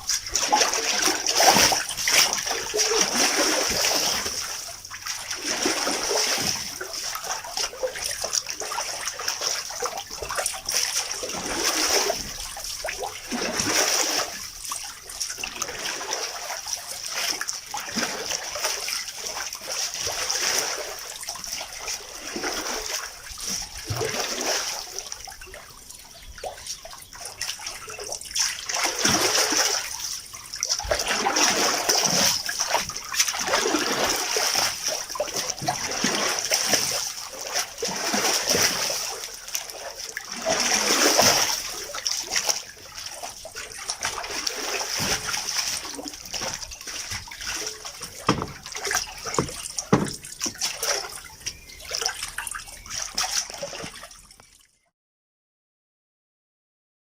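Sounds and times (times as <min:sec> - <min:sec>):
water sloshing in washing machine: 0:00.0 - 0:54.6.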